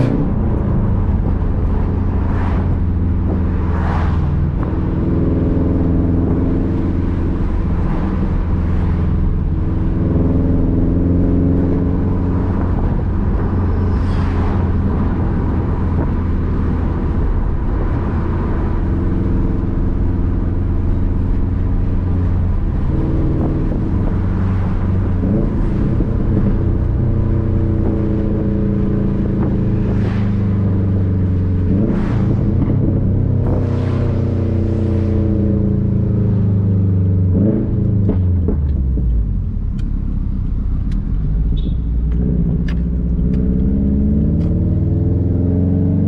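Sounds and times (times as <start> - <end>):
car engine rumbling while driving: 0.0 - 46.0.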